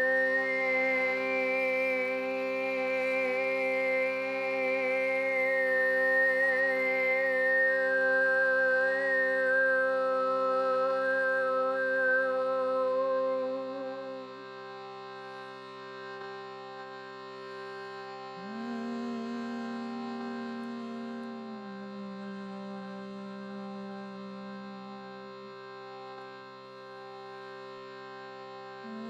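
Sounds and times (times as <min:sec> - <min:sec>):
meditation drone music: 0:00.0 - 0:29.0.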